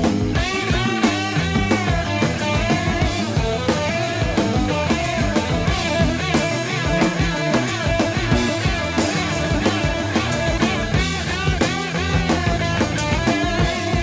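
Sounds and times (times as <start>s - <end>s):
bass guitar: 0.0s - 14.0s
drum kit: 0.0s - 14.0s
electric guitar: 0.0s - 14.0s.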